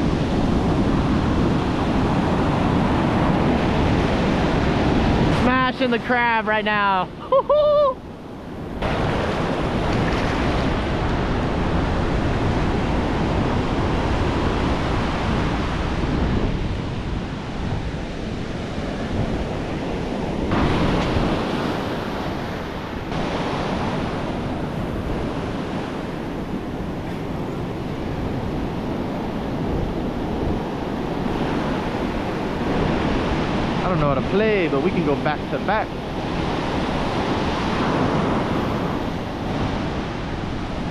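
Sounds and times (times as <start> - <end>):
ocean surf washing on beach: 0.0 - 40.9
wind buffeting microphone: 0.0 - 40.9.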